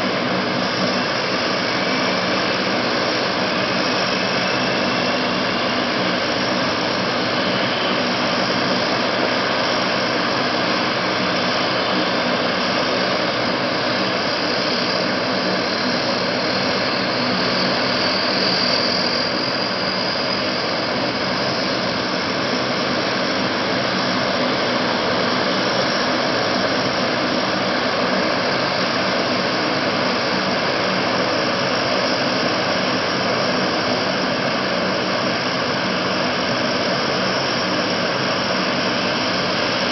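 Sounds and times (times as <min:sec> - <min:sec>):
turboprop engines running: 0:00.0 - 0:39.9.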